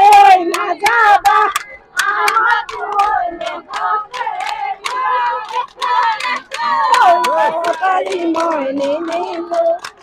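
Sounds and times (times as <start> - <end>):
high voices singing: 0.0 - 10.0
rhythmic hand claps: 0.0 - 10.0.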